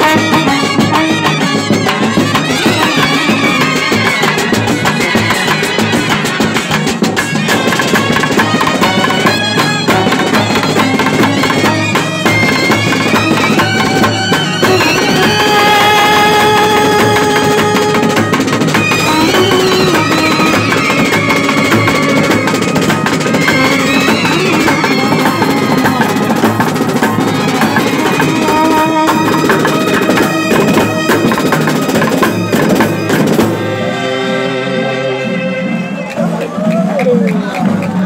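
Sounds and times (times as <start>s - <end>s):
fast dense drumming: 0.0s - 33.8s
reedy wind instruments melody: 0.0s - 38.0s.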